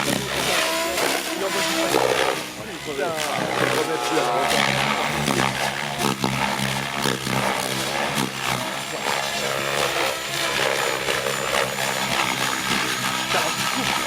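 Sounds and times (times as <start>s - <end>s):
model helicopter rotor and motor: 0.0s - 14.0s.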